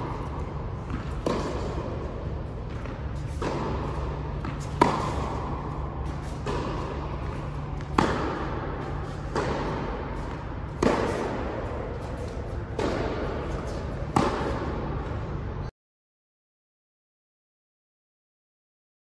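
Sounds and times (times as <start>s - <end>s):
racquet hitting tennis ball: 0.0s - 15.3s
steady low hum: 0.0s - 15.7s.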